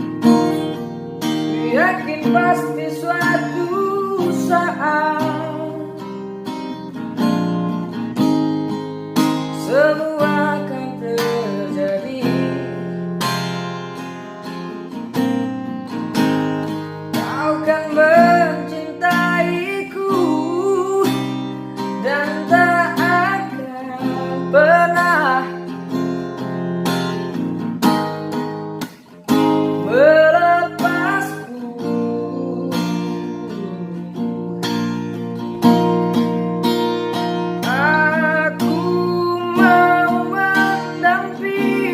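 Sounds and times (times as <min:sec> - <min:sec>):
acoustic guitar strumming: 0:00.0 - 0:41.9
bending guitar melody: 0:00.0 - 0:41.9.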